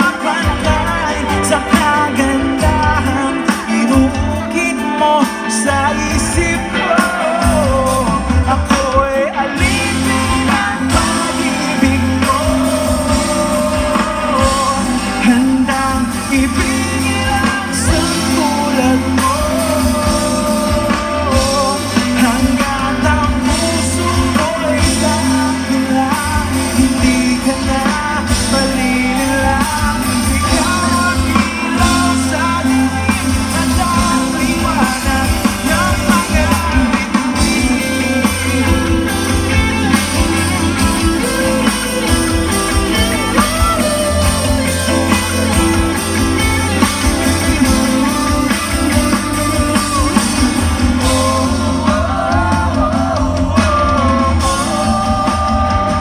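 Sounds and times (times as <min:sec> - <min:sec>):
acoustic guitar: 0:00.0 - 0:56.0
bass: 0:00.0 - 0:56.0
drum kit: 0:00.0 - 0:56.0
keyboard: 0:00.0 - 0:56.0
person singing: 0:00.0 - 0:56.0.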